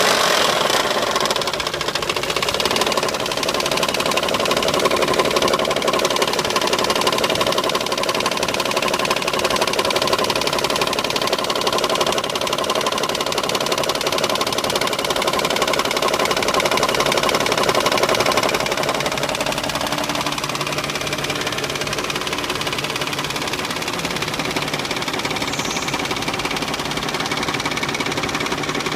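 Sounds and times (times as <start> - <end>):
engine knocking clatter: 0.0 - 28.9.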